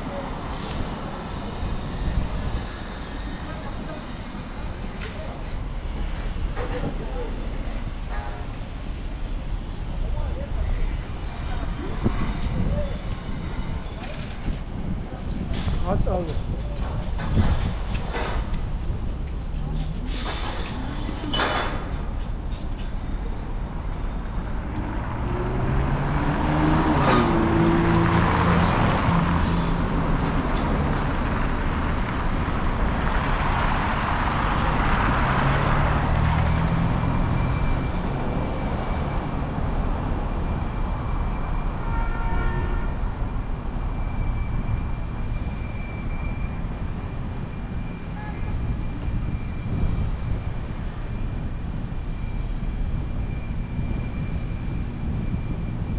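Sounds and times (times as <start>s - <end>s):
low traffic rumble: 0.0s - 55.9s
vehicles passing by: 0.0s - 55.9s.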